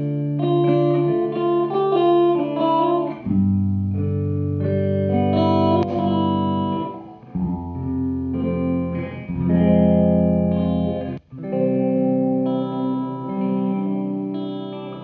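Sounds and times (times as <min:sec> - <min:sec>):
overdriven electric guitar chords: 0:00.0 - 0:15.0.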